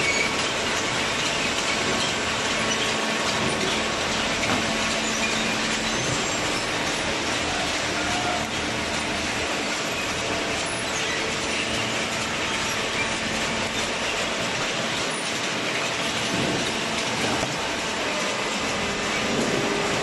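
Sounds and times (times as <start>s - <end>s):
baling machine running: 0.0s - 20.0s.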